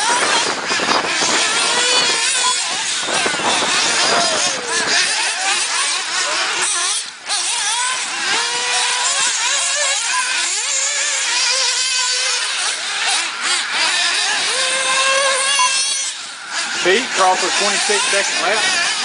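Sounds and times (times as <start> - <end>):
rc car engines buzzing: 0.0 - 19.0.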